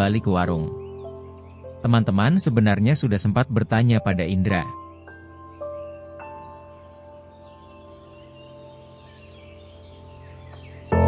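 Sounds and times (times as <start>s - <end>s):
background music of sustained notes: 0.0s - 11.0s.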